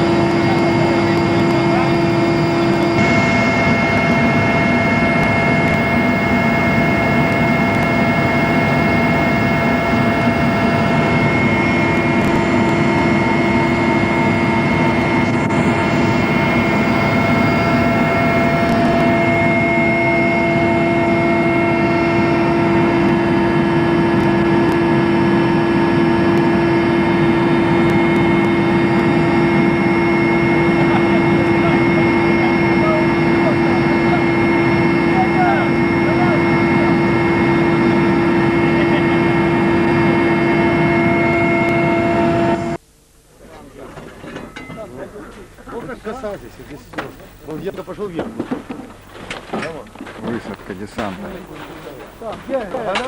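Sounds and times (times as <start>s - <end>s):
engine whining tones: 0.0s - 42.8s
helicopter rotor and engine drone: 0.0s - 42.8s, 43.9s - 53.0s.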